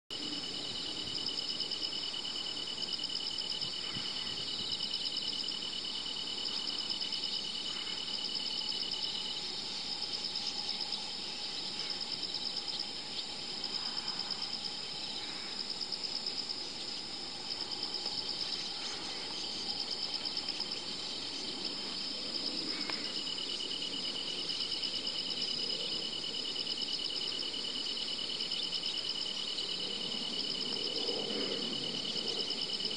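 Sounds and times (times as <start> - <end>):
insect chorus trilling: 0.1 - 32.9.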